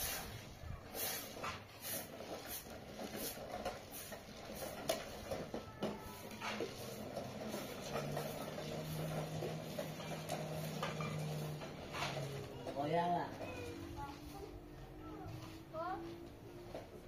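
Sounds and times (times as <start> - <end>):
broom sweeping concrete: 0.0 - 12.5, 13.6 - 16.3.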